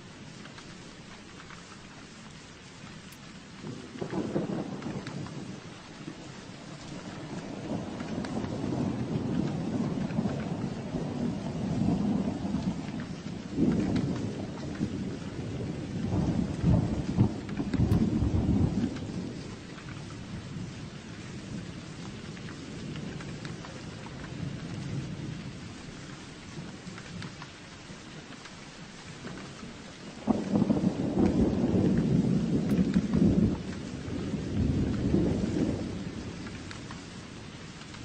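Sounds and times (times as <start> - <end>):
steady rain: 0.0 - 38.0
rolling thunder: 3.6 - 27.4, 29.1 - 38.0.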